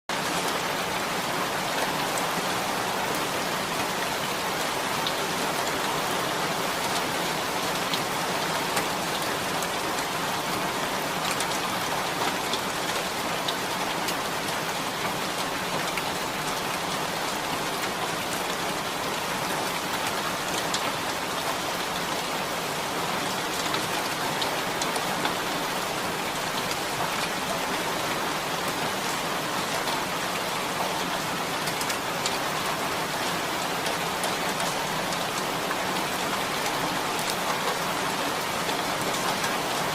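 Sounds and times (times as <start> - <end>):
rain on a tin roof: 0.1 - 39.9.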